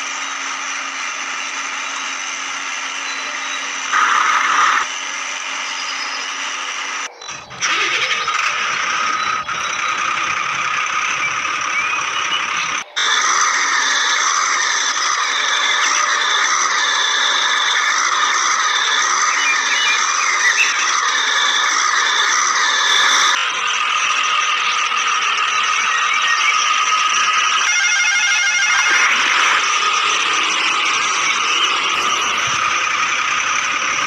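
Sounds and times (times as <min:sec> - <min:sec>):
toy vehicle motors whining: 0:00.0 - 0:34.0.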